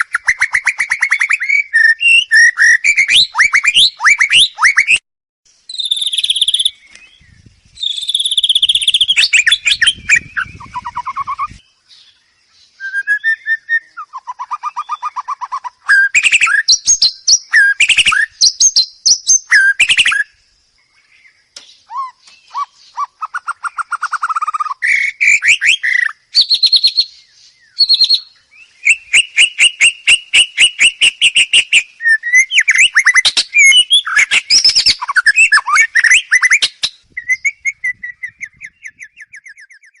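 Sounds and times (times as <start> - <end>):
bird singing whistles and trills: 0.0 - 40.0.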